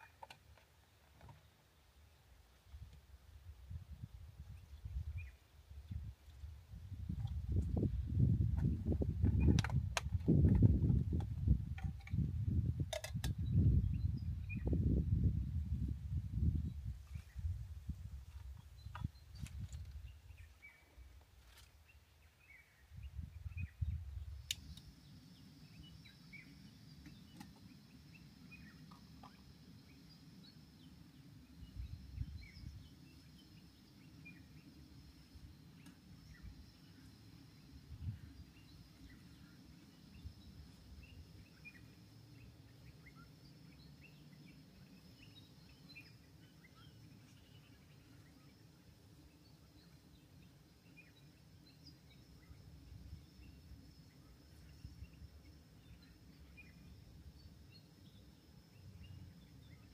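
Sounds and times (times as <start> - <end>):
small birds chirping: 4.4 - 17.6, 18.3 - 59.9.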